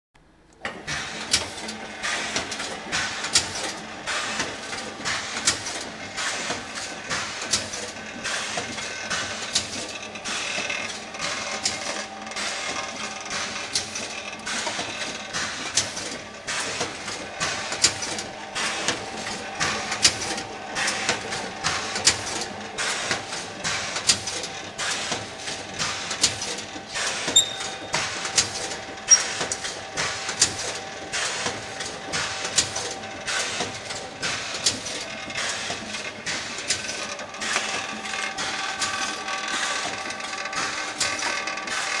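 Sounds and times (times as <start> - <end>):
machine hum: 0.2 - 42.0
machine mechanical clack: 0.6 - 42.0.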